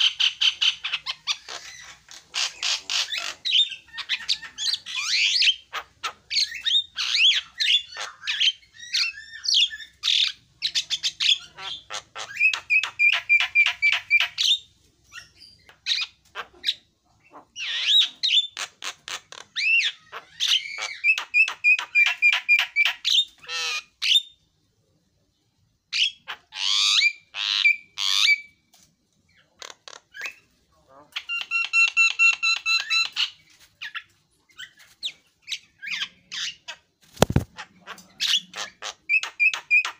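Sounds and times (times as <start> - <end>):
myna bird singing: 0.0 - 24.4, 29.3 - 39.9.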